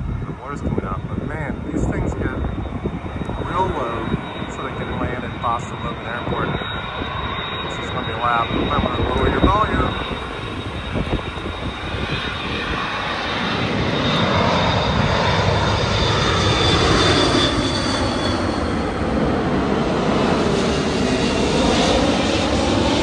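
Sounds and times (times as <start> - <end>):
high engine whine: 0.0 - 23.0
jet airliner roaring overhead: 0.0 - 23.0.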